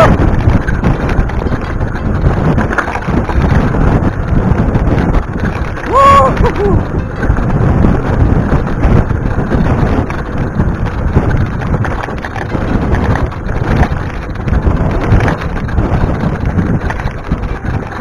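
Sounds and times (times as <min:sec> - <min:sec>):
bike rattling over bumps: 0:00.0 - 0:18.0
tyres on loose dirt: 0:00.0 - 0:18.0
wind buffeting microphone: 0:00.0 - 0:18.0.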